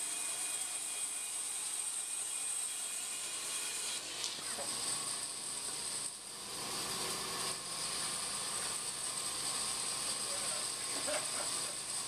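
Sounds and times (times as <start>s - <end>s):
bandsaw running: 0.0s - 12.0s.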